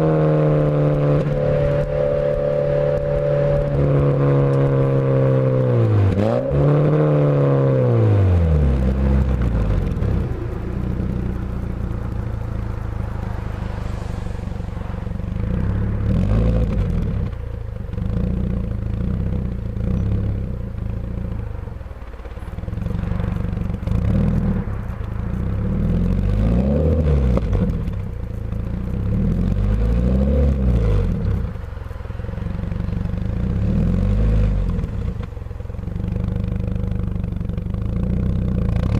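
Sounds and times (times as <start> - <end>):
car exhaust idling: 0.0 - 38.9
engine throttle blips: 0.0 - 38.9.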